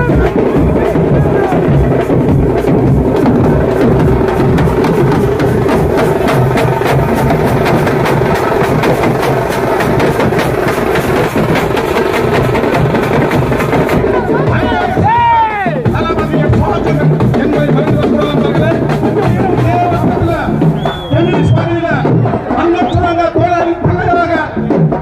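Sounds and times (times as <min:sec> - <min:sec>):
drum band playing: 0:00.0 - 0:25.0.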